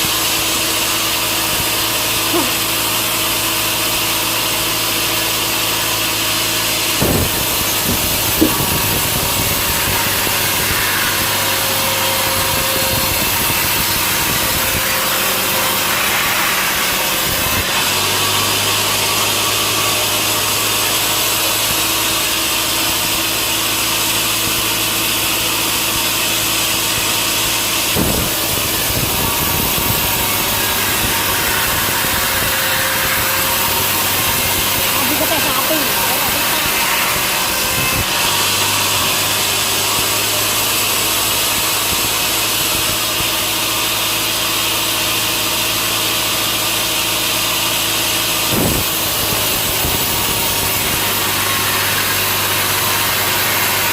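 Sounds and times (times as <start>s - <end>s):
motor hum: 0.0s - 53.9s
saw cutting through log: 0.0s - 53.9s.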